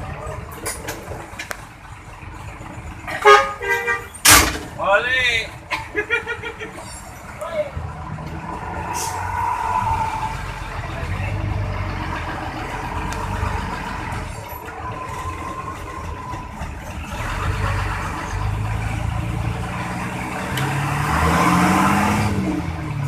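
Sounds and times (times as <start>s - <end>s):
bus diesel engine running: 0.0s - 23.0s.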